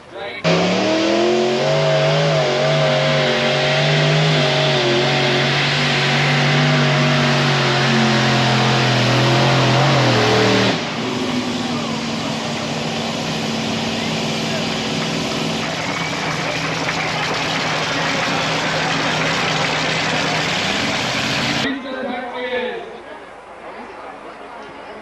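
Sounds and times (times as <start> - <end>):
tractor engines at full throttle: 0.0 - 21.7.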